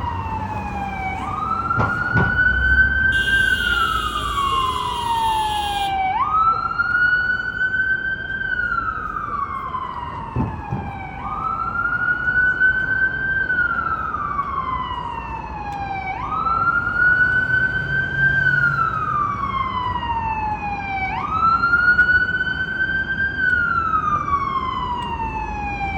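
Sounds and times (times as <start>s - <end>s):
city traffic rumble: 0.0s - 25.9s
emergency siren wailing: 0.0s - 25.9s.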